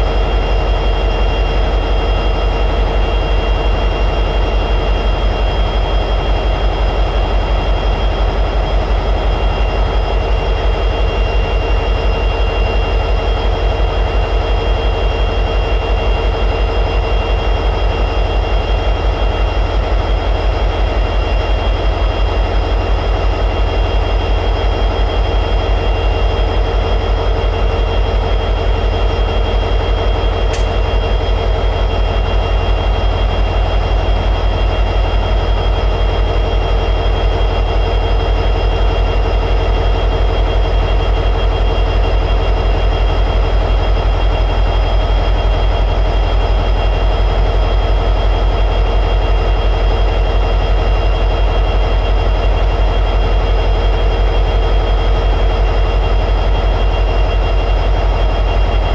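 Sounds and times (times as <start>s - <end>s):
diesel locomotive engine idling: 0.0s - 58.9s.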